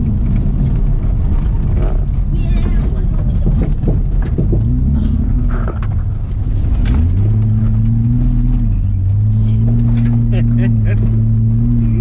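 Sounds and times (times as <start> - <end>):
car engine running hard: 0.0 - 12.0
car rumbling on dirt road: 0.0 - 12.0.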